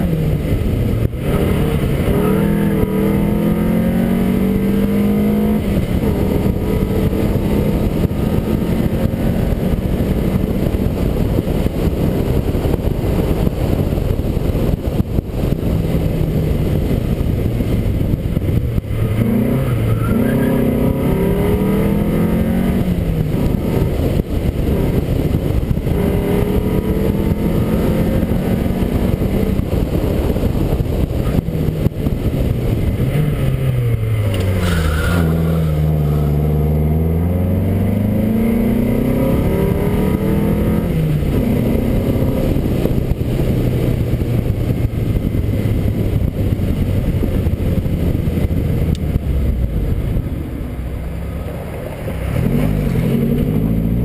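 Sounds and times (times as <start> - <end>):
car engine revving: 0.0 - 54.0
road and wind noise: 0.0 - 54.0.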